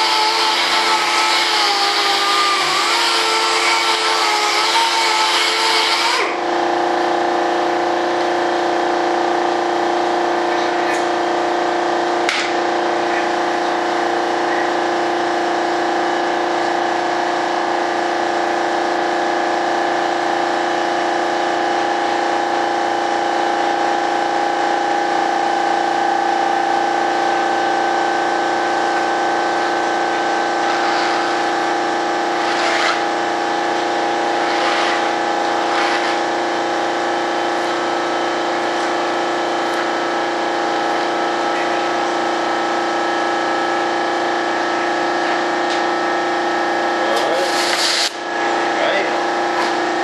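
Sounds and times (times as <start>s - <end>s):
machine drone: 0.0s - 50.0s.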